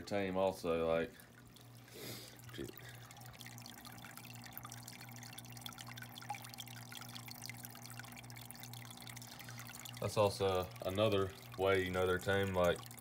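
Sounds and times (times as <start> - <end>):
faint drips: 0.0 - 13.0
filter water trickling and splashing: 0.0 - 13.0
steady low hum: 0.0 - 13.0.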